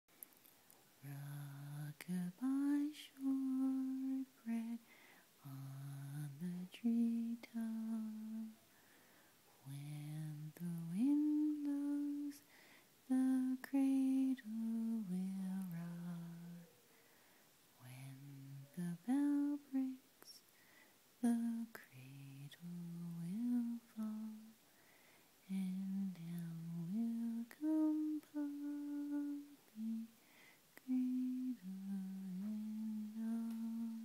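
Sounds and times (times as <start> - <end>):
person humming a lullaby: 1.0 - 4.8, 5.4 - 8.7, 9.6 - 16.9, 17.8 - 20.4, 21.2 - 24.6, 25.4 - 30.2, 30.8 - 34.0.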